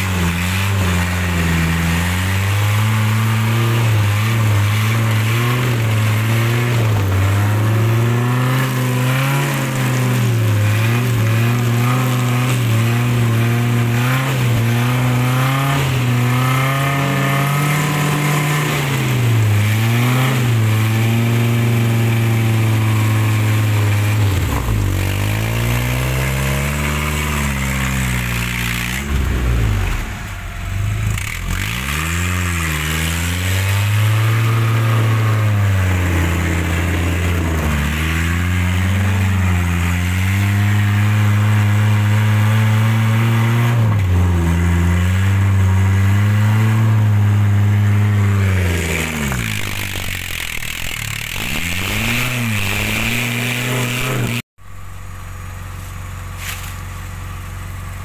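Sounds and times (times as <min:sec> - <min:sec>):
engine revving under load: 0:00.0 - 0:58.0.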